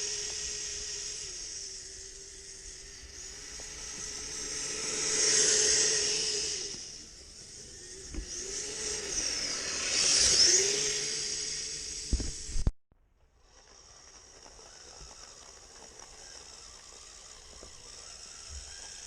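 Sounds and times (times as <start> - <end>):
engine whine: 0.0 - 19.0.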